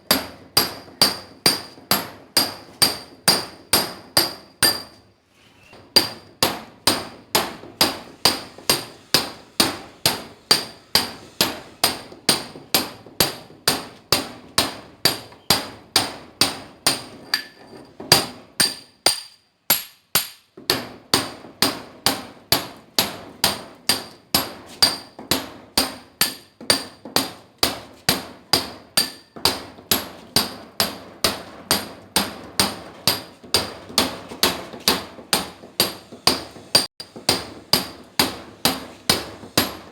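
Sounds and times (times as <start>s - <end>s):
hammer striking steel chisel: 0.1s - 5.0s, 5.8s - 39.9s.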